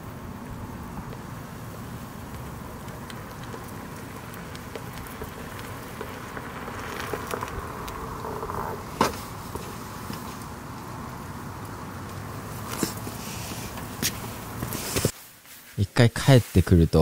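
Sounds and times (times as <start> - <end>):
electric board rolling hum: 0.0 - 15.1
outdoor hiss: 0.0 - 17.0.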